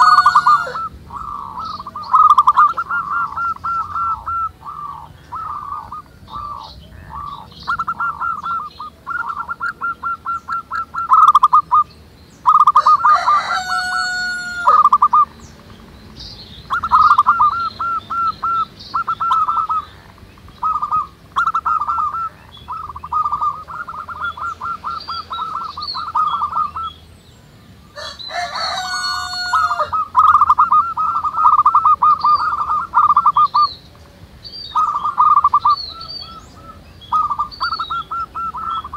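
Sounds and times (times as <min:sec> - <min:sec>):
doves cooing: 0:00.0 - 0:27.0, 0:27.9 - 0:38.9
drawn-out bird call: 0:00.0 - 0:38.9.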